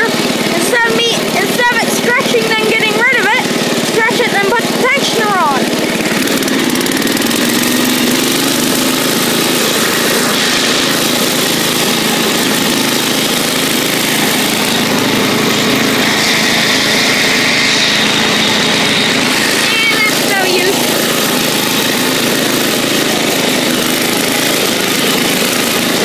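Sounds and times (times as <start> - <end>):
garden tractor engine running: 0.0 - 26.0.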